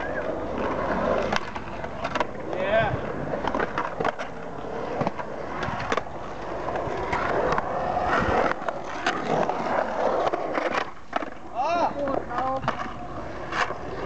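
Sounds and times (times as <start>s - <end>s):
skateboard clacks: 0.0s - 14.0s
skateboard wheels rolling on concrete: 0.0s - 14.0s.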